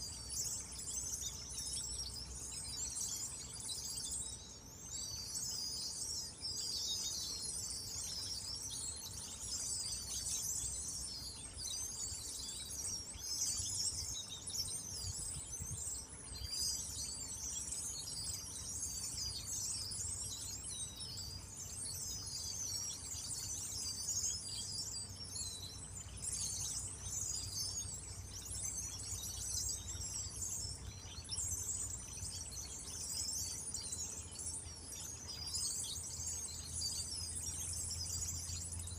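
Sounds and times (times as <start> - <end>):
flock of small birds chirping: 0.0 - 38.9.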